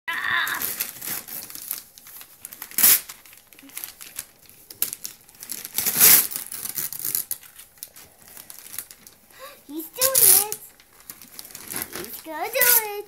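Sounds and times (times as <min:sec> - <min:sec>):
wrapping paper tearing and crinkling: 0:00.1 - 0:13.0.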